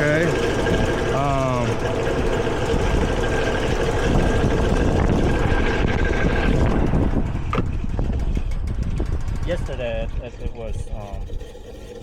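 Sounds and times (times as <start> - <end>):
condenser fan whirring: 0.0 - 12.0.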